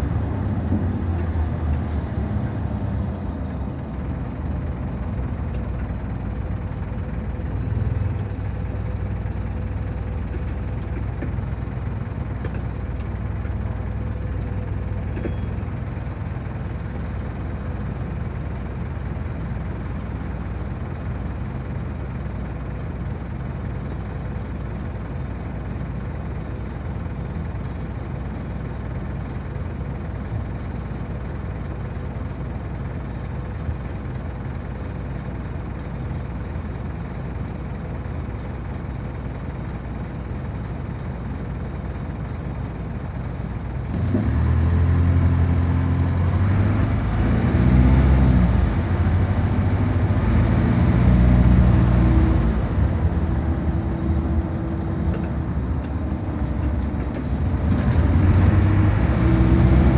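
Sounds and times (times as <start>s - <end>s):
diesel bus engine: 0.0s - 59.9s.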